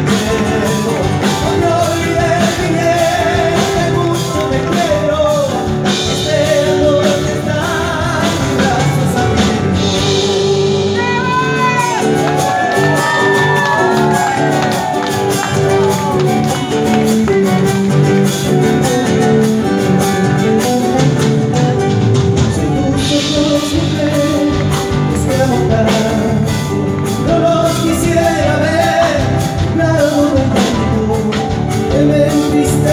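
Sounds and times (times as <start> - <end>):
person singing: 0.0 - 32.9
steady bass: 0.0 - 32.9.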